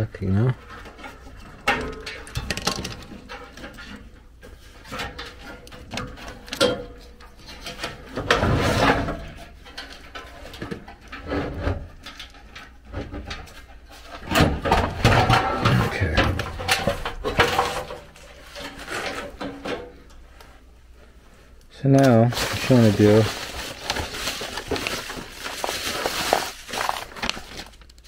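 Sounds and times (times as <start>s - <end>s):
sheet metal shifting: 0.0s - 20.7s, 22.0s - 28.0s
wires and connectors rustling: 0.0s - 28.0s.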